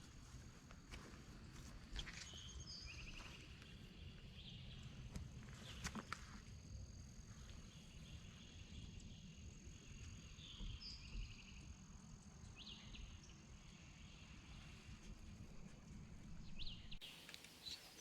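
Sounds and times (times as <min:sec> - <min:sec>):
songbird chirps and trills: 0:01.6 - 0:18.0.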